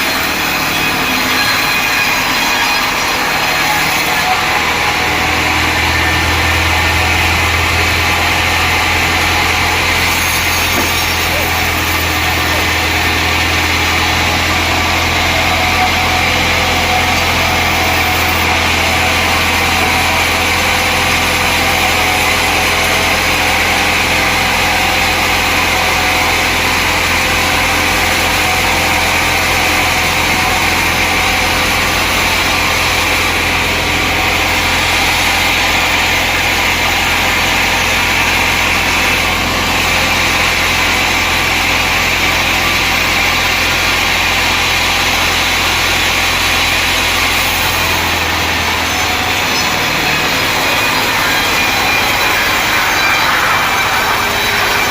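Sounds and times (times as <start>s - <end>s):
high machine whine: 0.0s - 54.9s
sawmill machinery hum: 0.0s - 54.9s.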